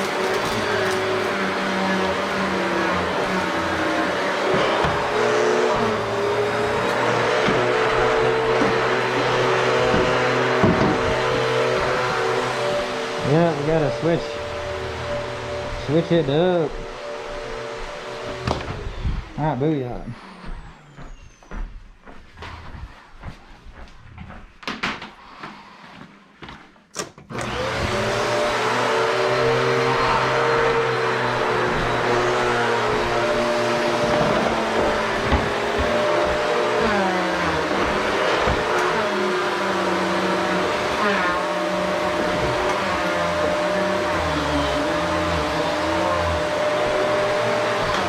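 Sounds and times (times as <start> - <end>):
vacuum cleaner motor running: 0.0 - 23.4, 27.3 - 48.0.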